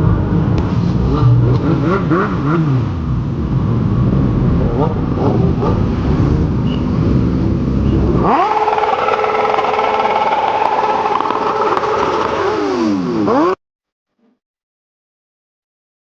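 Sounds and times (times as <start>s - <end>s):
deep rumbling engine: 0.0s - 13.6s
motorcycle revving: 0.0s - 13.6s.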